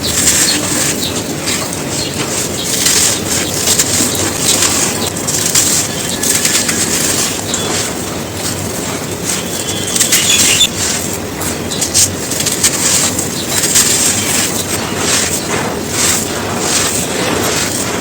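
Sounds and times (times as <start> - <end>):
dry cones crunching: 0.0 - 18.0.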